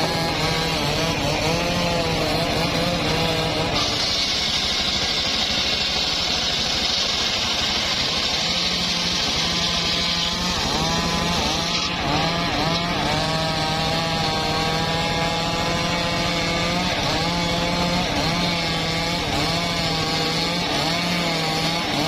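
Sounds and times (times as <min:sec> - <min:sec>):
engine running: 0:00.0 - 0:22.0
wavering saw whine: 0:00.0 - 0:22.0.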